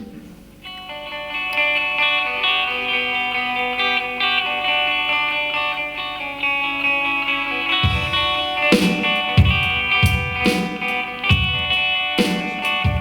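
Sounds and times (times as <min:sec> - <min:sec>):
guitar plucked notes: 0:00.1 - 0:13.0.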